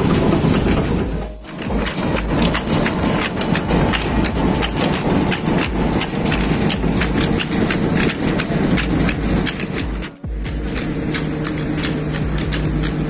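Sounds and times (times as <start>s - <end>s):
low machine hum: 0.0s - 13.0s
vibrating sieve clatter: 0.0s - 13.0s.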